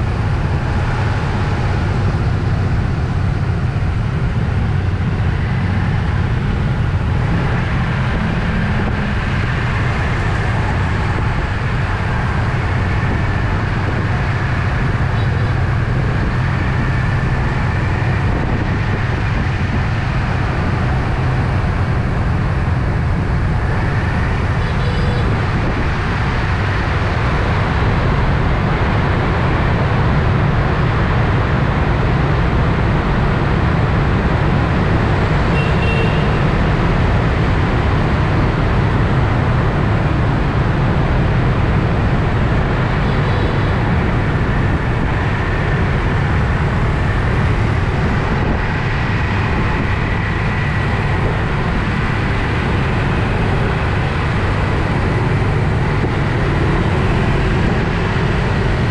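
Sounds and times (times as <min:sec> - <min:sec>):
motorbike engine and road noise: 0:00.0 - 0:58.9
wind rush: 0:00.0 - 0:58.9.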